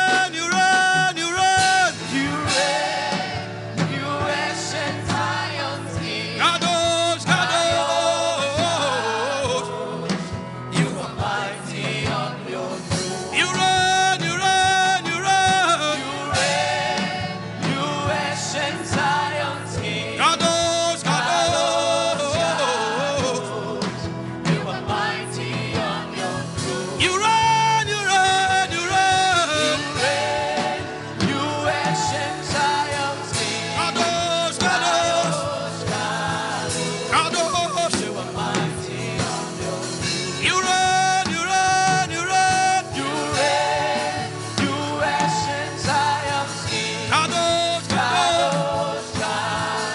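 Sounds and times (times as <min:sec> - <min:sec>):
gospel singing over instrumental backing: 0:00.0 - 0:49.9.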